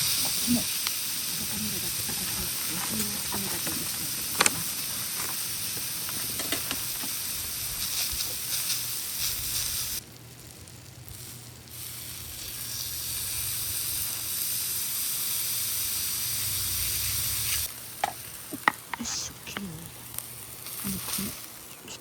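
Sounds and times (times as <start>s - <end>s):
meat sizzling on griddle: 0.0s - 21.7s.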